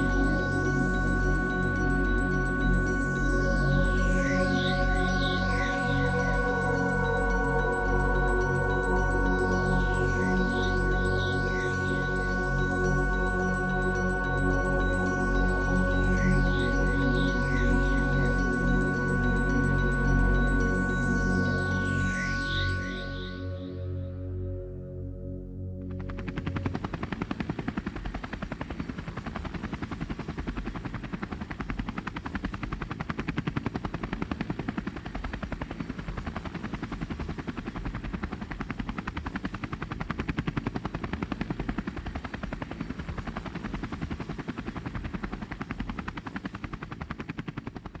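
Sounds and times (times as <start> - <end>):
helicopter rotor chopping: 0.0 - 21.8, 26.0 - 48.0.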